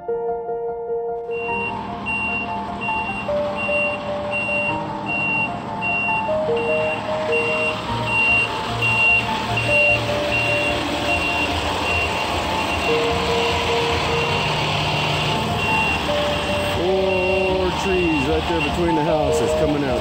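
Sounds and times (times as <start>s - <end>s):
truck engine running: 1.3s - 20.0s
truck reversing alarm beeping: 1.3s - 20.0s.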